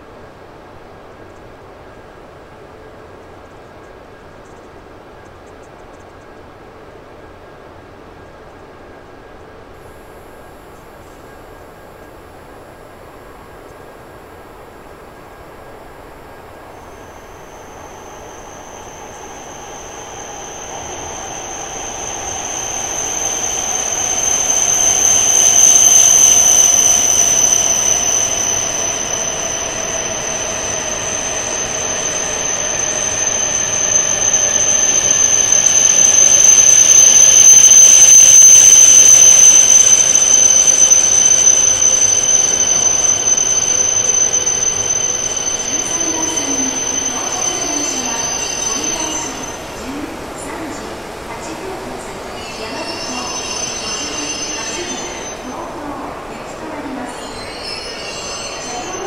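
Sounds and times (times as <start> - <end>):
train brakes squealing: 9.8 - 59.0
train motor whine: 9.8 - 59.0.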